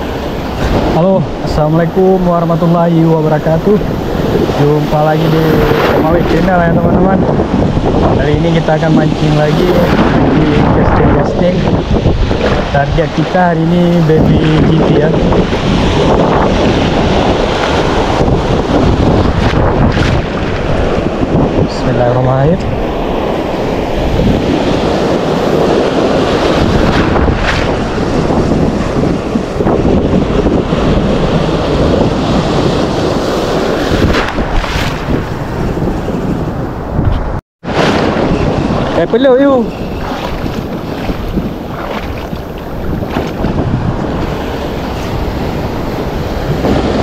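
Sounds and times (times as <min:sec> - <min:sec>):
surf breaking and washing: 0:00.0 - 0:47.0
wave splashing camera: 0:00.0 - 0:47.0
wind buffeting microphone: 0:00.0 - 0:47.0.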